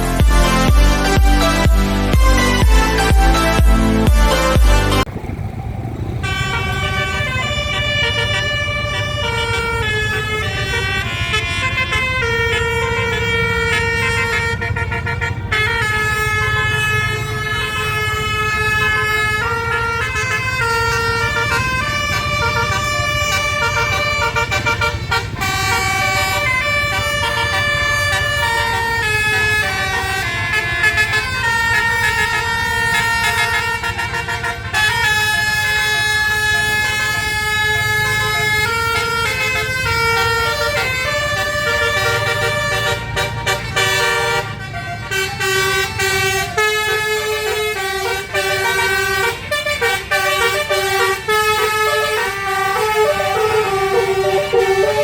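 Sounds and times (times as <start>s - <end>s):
bus horn playing a melody: 0.0s - 55.0s.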